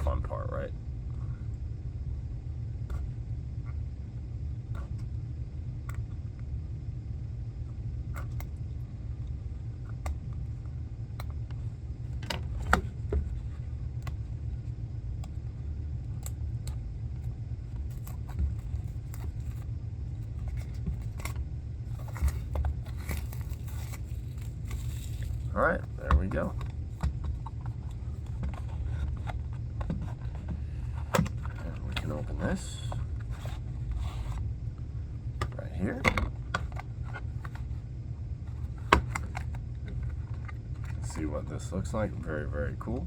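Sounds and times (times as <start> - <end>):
low rumble: 0.0 - 43.0.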